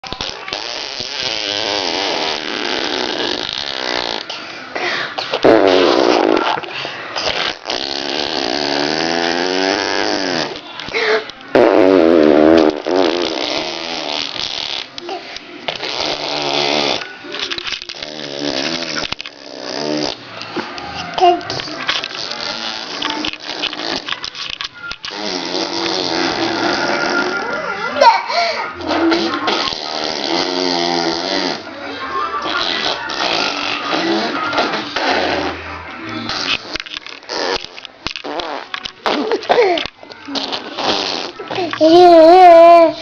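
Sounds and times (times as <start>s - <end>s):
child blowing raspberries: 0.2s - 20.2s, 21.1s - 31.7s, 32.5s - 43.0s.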